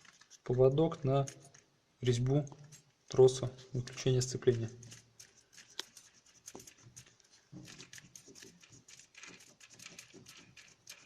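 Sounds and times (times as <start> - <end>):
faint clicks and scraping: 0.0 - 11.0.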